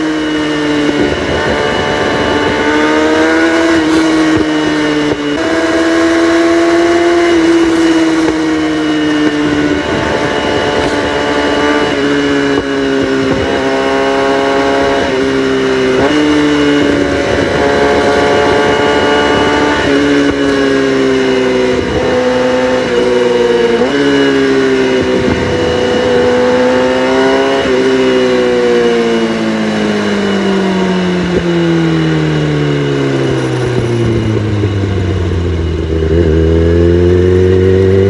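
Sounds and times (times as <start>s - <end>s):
motorcycle engine revving through gears: 0.0s - 38.0s.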